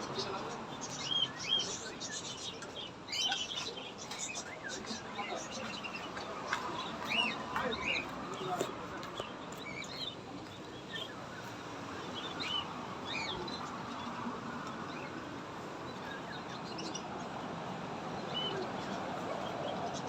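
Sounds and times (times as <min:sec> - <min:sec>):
caged birds chirping: 0:00.0 - 0:20.0.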